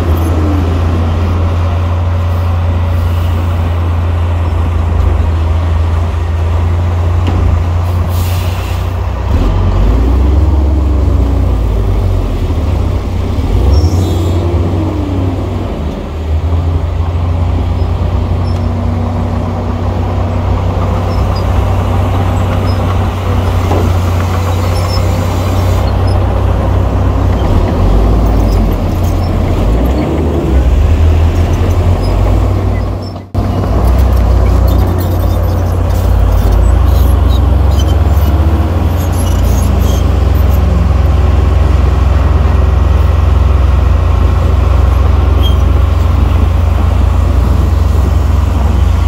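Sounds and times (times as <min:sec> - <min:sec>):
diesel engine rumbling: 0:00.0 - 0:49.0.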